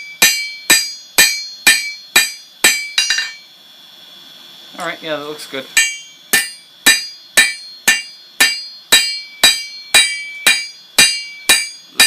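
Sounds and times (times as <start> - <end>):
hammer striking steel on anvil: 0.0 - 3.5, 5.8 - 12.0.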